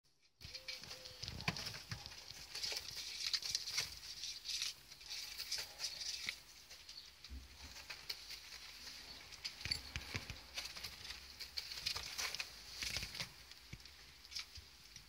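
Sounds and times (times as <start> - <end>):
rabbits rustling in hay: 0.4 - 15.0.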